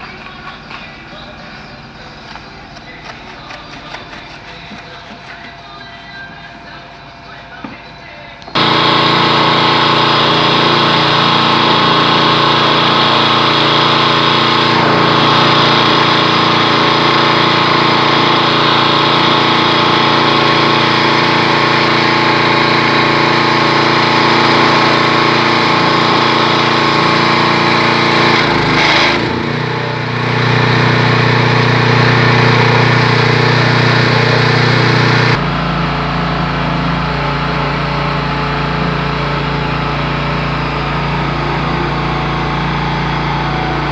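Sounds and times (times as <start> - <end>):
pressure washer humming: 0.0 - 43.9.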